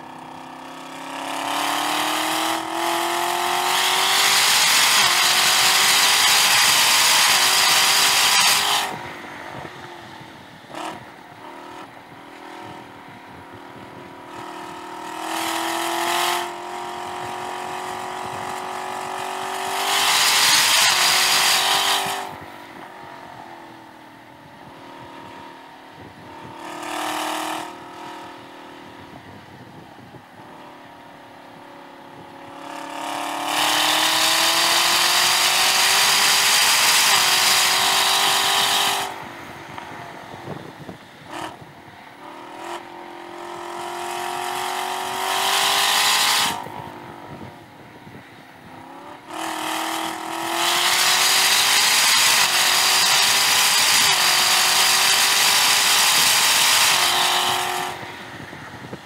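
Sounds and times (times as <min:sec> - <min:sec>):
car engine revving: 0:00.0 - 0:29.4, 0:30.4 - 0:47.9, 0:48.6 - 0:59.0.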